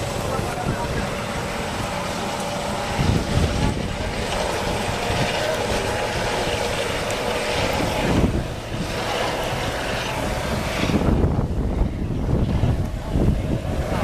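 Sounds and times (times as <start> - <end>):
helicopter flying by: 0.0 - 14.0.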